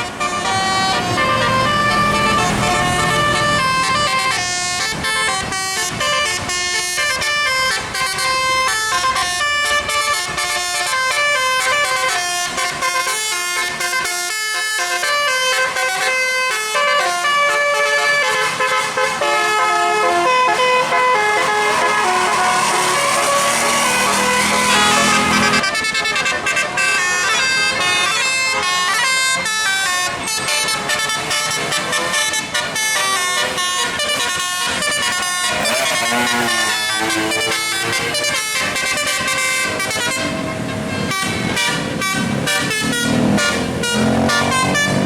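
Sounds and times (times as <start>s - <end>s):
musical bus air horn: 0.0s - 45.0s.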